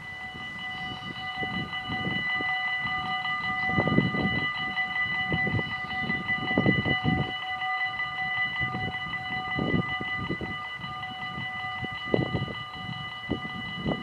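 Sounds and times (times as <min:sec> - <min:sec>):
level crossing bells ringing: 0:00.0 - 0:14.0.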